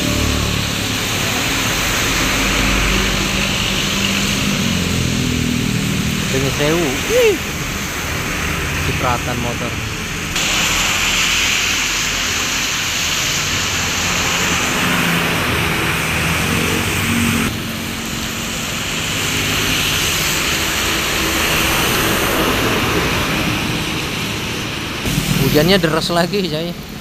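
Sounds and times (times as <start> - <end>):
heavy rain falling: 0.0 - 27.0
tyres spraying through water: 0.0 - 27.0.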